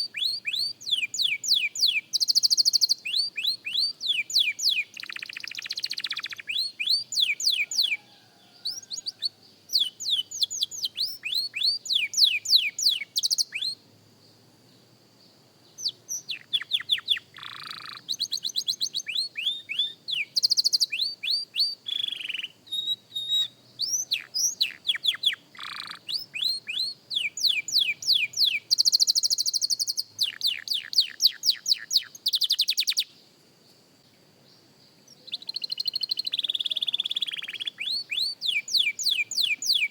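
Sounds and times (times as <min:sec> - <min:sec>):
canary singing trills: 0:00.0 - 0:13.8, 0:15.7 - 0:33.2, 0:35.0 - 0:39.9.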